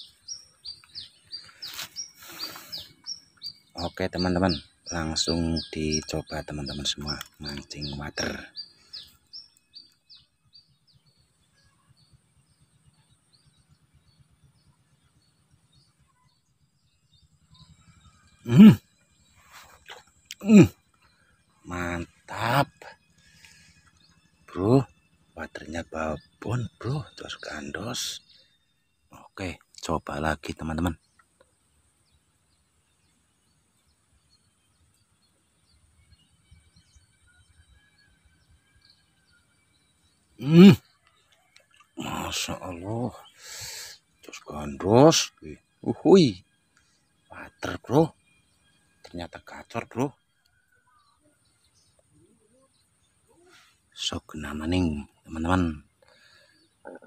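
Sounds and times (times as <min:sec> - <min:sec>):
faint bird chirps: 0:00.0 - 0:57.0.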